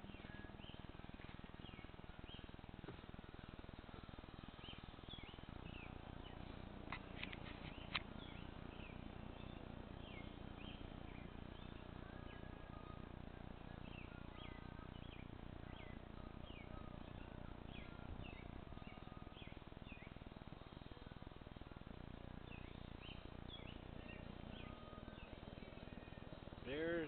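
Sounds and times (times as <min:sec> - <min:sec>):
low background hum: 0:00.0 - 0:27.0
small birds chirping: 0:00.0 - 0:27.0.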